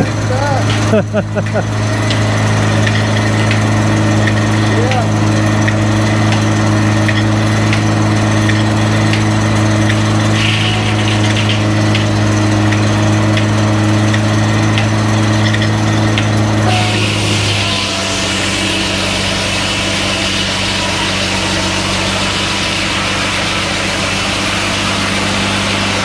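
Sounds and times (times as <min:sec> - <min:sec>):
tractor engine running steadily: 0:00.0 - 0:26.0.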